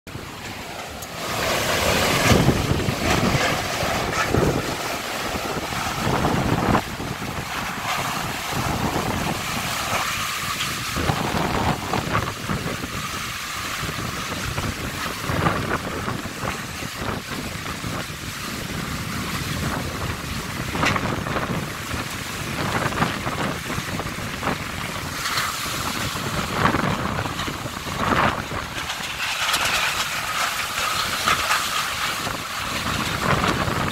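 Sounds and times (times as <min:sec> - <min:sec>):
heavy rain falling: 0:00.1 - 0:33.9
wind buffeting microphone: 0:00.1 - 0:33.9.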